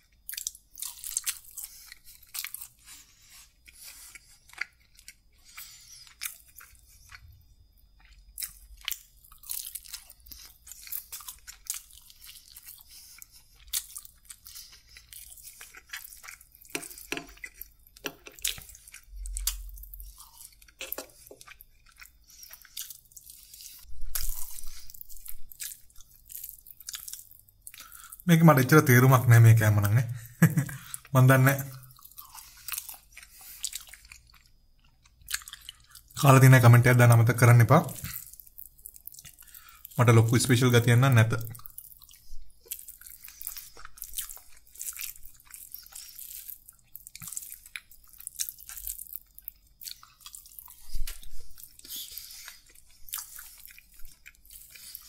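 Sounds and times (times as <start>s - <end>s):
chewing chicken drumstick: 0.0s - 28.2s, 28.9s - 36.2s, 41.5s - 55.0s.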